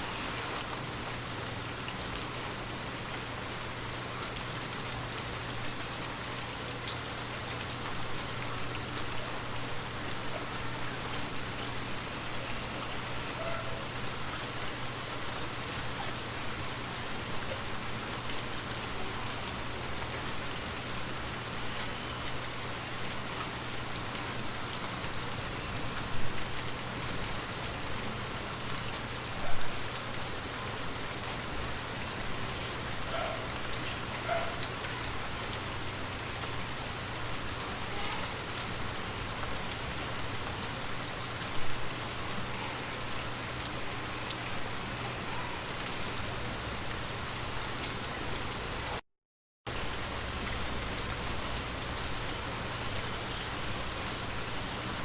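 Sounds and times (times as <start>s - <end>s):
rain falling: 0.0s - 49.0s, 49.7s - 55.0s.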